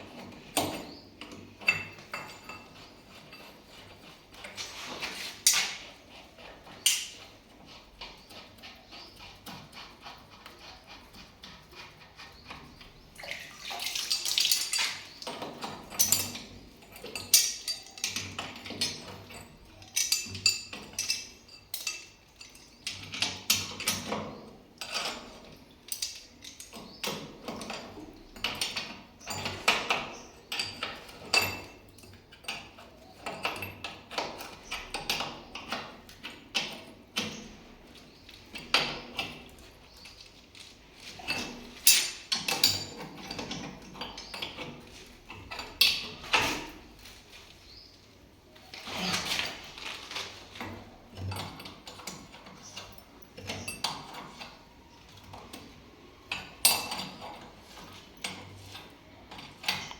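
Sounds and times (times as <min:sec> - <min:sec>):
metal tools clinking: 0:00.2 - 0:05.9, 0:13.8 - 0:47.9, 0:48.7 - 0:59.9.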